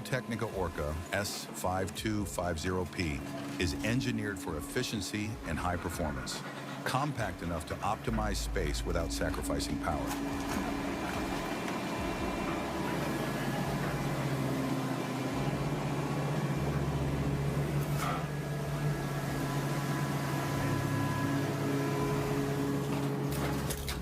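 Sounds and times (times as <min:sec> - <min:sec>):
car baler humming and whining: 0:00.0 - 0:24.0.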